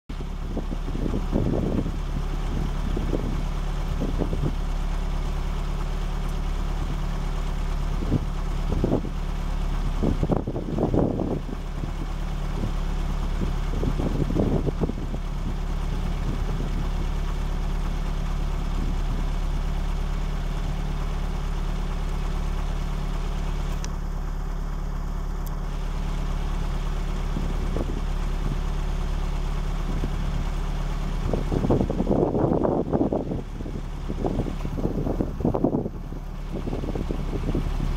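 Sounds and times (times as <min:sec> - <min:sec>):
vehicle engine humming at low revs: 0:00.1 - 0:37.9.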